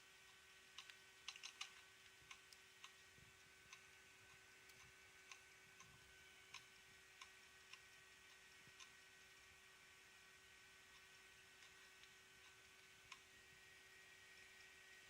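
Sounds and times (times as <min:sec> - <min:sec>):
faint hard drive clicks: 0:00.0 - 0:15.0
hard drive hum: 0:00.0 - 0:15.0.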